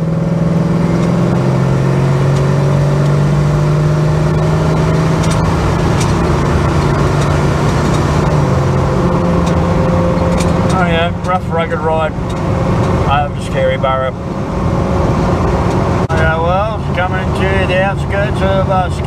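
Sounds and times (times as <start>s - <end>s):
car engine while driving: 0.0s - 19.0s
road noise: 0.0s - 19.0s.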